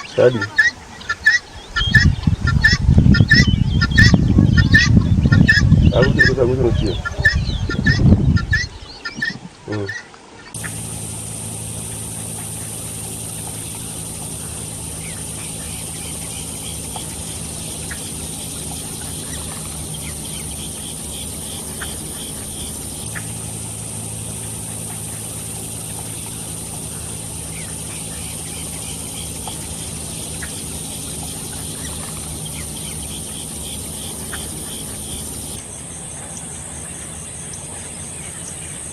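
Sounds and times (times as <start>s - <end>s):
chicks peeping: 0.0s - 35.6s
steady hum and hiss: 0.0s - 38.9s.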